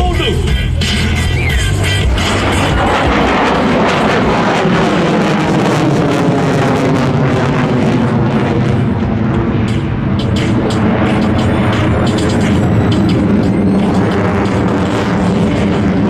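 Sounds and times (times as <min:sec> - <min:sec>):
fighter jet engines roaring: 0:00.0 - 0:16.0.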